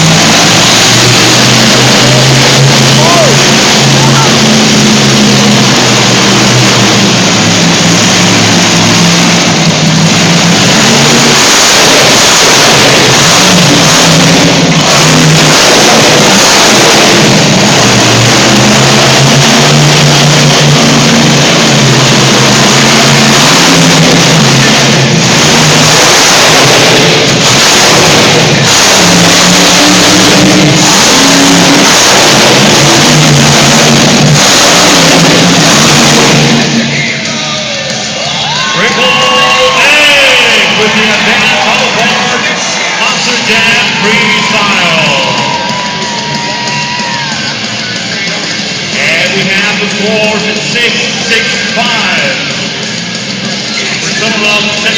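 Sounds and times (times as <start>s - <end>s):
monster truck engine revving: 0.0s - 54.9s.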